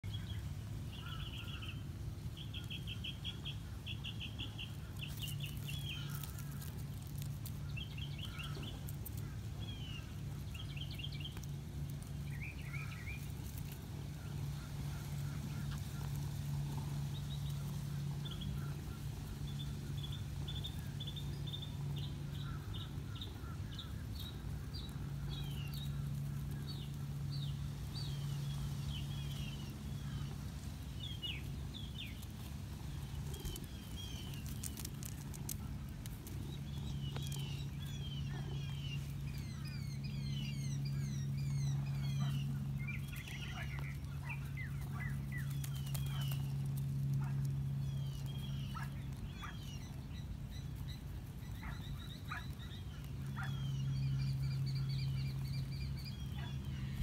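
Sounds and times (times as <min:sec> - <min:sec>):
small birds chirping: 0:00.0 - 0:57.0
steady low hum: 0:00.0 - 0:57.0.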